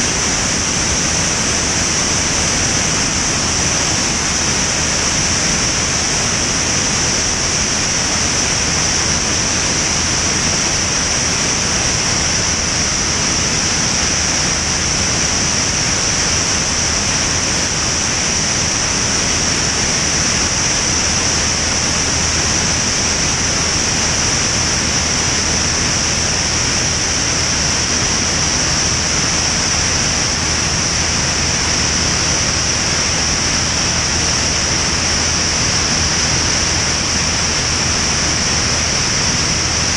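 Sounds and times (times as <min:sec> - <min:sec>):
airflow rushing with high hiss: 0:00.0 - 0:39.9
propeller engine drone: 0:00.0 - 0:39.9.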